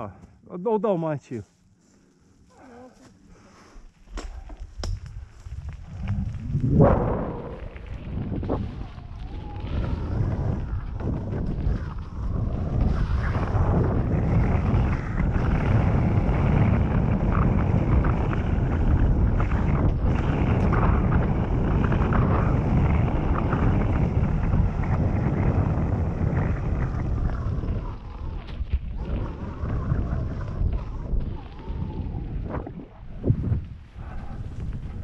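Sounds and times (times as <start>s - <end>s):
bike tyre rumble: 1.4s - 35.0s
wind buffeting microphone: 4.0s - 35.0s.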